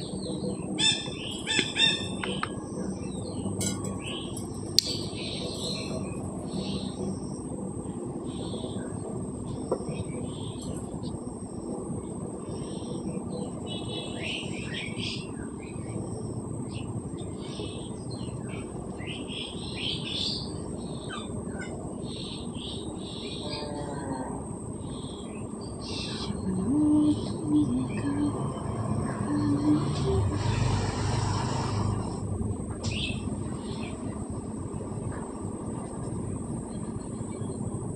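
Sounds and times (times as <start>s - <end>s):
small birds chirping: 0.0s - 7.6s, 8.2s - 32.2s, 32.8s - 37.9s
low rushing background: 0.0s - 23.3s, 24.6s - 37.9s.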